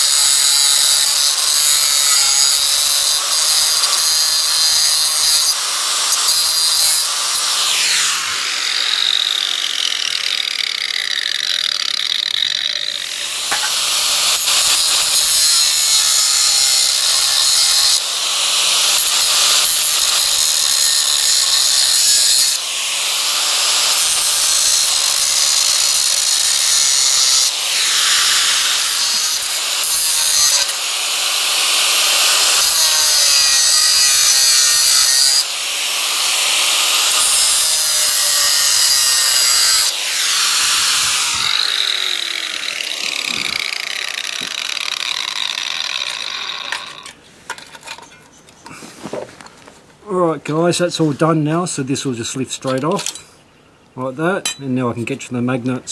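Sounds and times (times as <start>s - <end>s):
angle grinder cutting metal: 0.0s - 48.1s.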